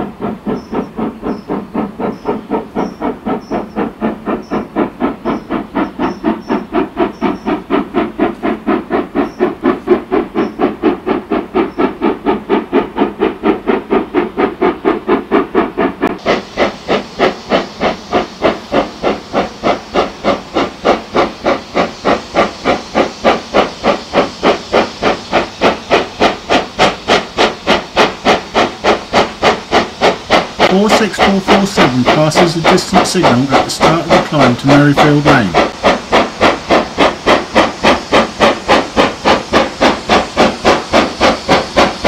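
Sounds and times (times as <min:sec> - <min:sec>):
steam locomotive chuffing: 0:00.0 - 0:42.0.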